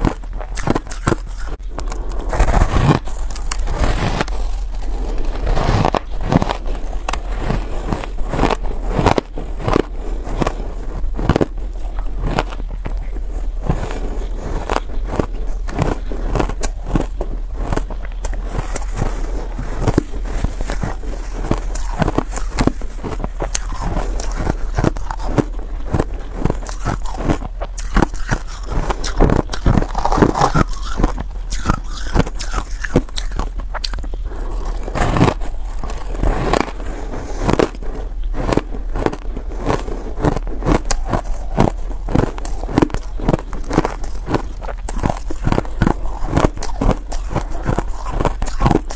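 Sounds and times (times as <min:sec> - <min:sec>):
ice crunching while chewed: 0:00.0 - 0:48.9
steady low hum: 0:00.0 - 0:48.9.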